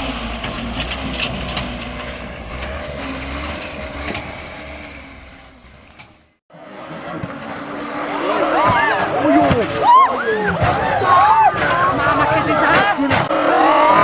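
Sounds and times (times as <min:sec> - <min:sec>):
heavy vehicle engine rumbling: 0:00.0 - 0:14.0.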